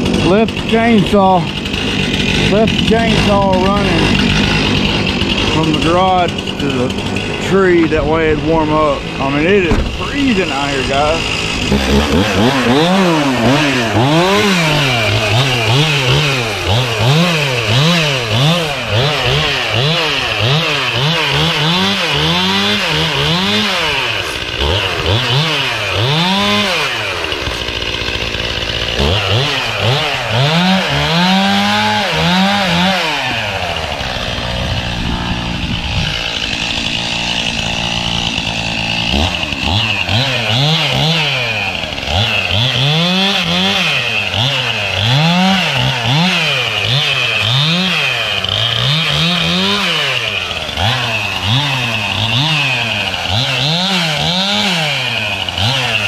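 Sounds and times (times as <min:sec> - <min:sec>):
chainsaw idling: 0:00.0 - 0:56.0
chainsaw revving: 0:00.0 - 0:56.0.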